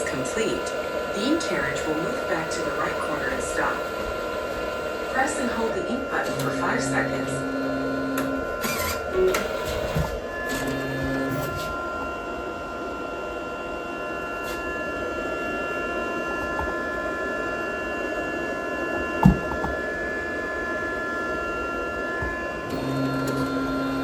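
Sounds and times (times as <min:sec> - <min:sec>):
printer humming: 0:00.0 - 0:24.0.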